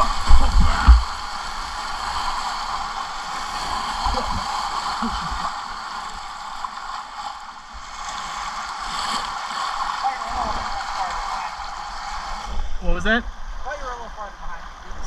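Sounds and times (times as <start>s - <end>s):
river whitewater rushing: 0.0s - 12.5s.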